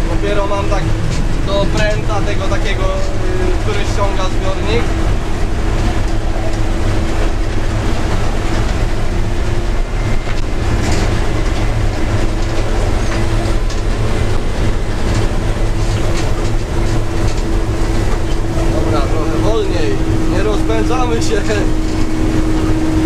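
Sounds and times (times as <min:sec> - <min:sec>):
combine harvester droning: 0:00.0 - 0:23.0.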